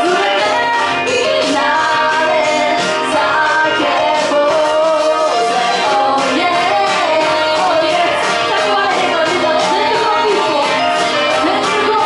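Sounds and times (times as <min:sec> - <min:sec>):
music with a steady beat: 0:00.0 - 0:12.0
woman singing into a microphone: 0:00.0 - 0:12.0.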